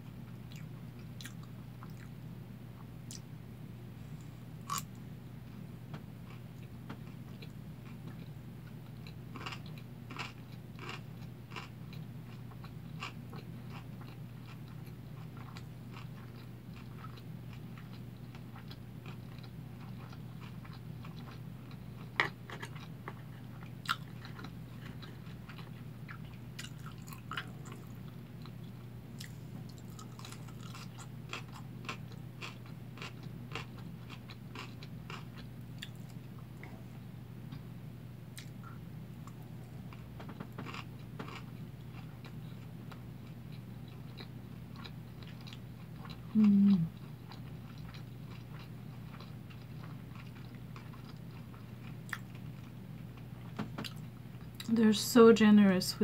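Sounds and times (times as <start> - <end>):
steady low hum: 0.0 - 56.0
close chewing with crunches: 6.3 - 36.8, 38.4 - 54.7.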